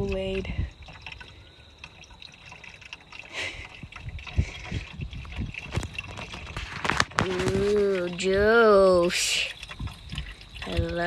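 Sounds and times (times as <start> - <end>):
liquid pouring and gurgling: 0.0 - 11.0.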